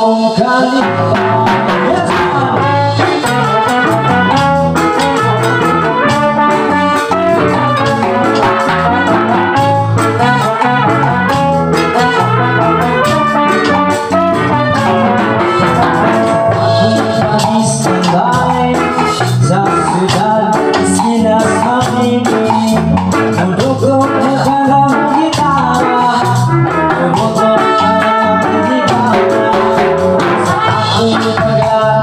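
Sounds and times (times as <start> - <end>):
live reggae band playing: 0.0 - 32.0.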